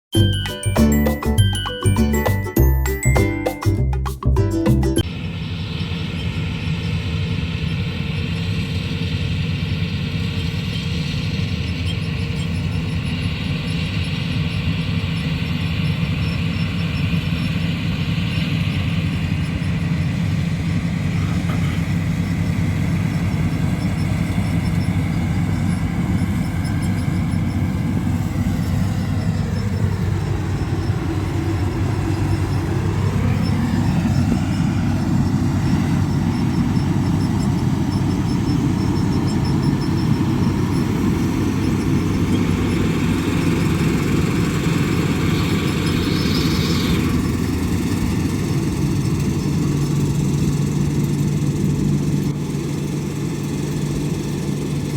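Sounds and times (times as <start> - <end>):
high machinery whine: 0.1 - 4.4, 5.0 - 54.9
combine harvester engine droning: 0.1 - 54.9.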